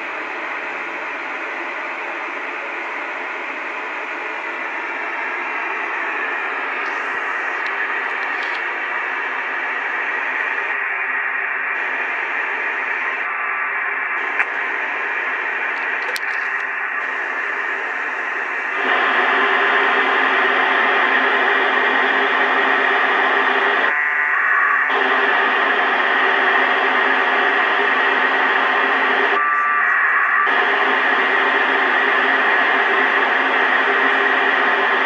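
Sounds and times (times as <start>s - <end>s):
radio receiver hiss: 4.6s - 35.0s.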